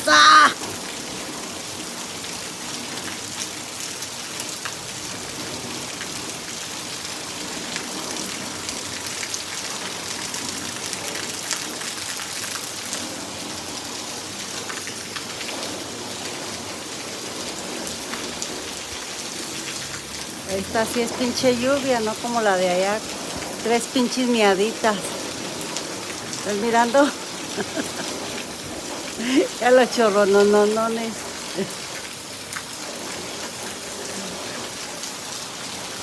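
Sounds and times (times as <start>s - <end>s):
heavy rain pattering: 0.0s - 36.0s.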